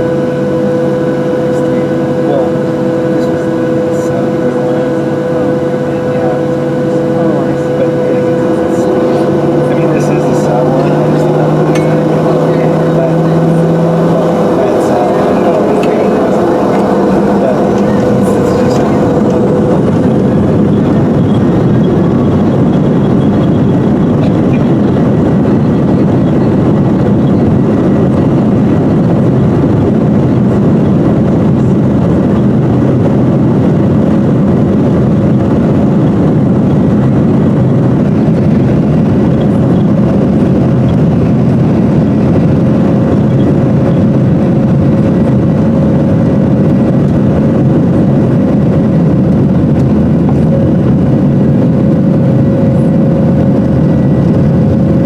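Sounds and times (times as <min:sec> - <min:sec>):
jet engine rush in cabin: 0:00.0 - 0:55.0.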